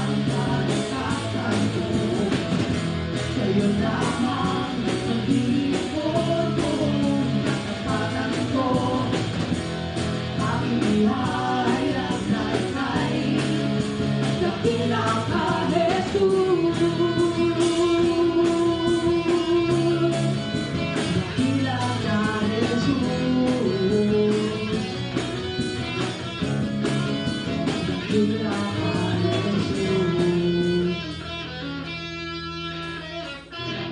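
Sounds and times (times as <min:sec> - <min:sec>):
guitar melody: 0:00.0 - 0:33.9
rock band playing: 0:00.0 - 0:33.9.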